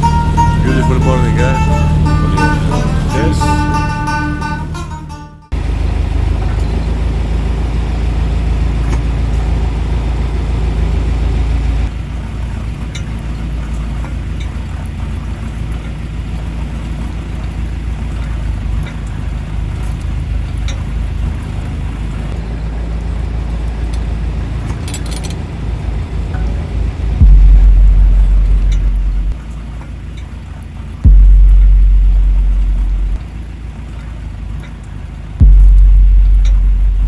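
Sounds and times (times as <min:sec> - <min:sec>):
boat engine running: 0:00.0 - 0:37.0.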